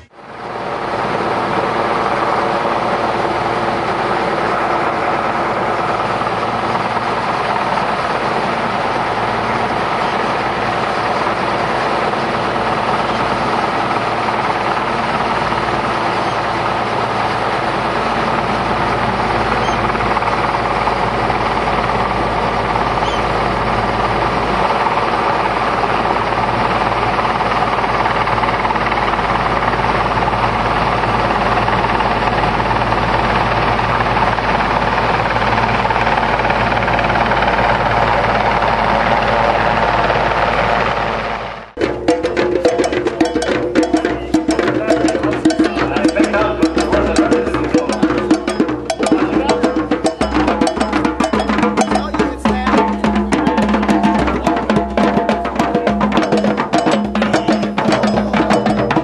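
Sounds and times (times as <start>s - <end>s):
helicopter hovering drone: 0.0s - 59.0s.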